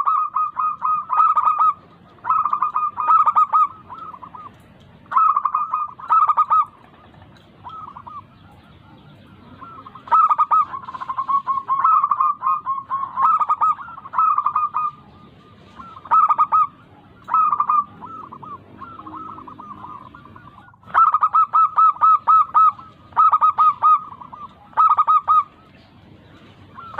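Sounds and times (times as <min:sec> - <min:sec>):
dove cooing ringing notes: 0:00.0 - 0:26.9.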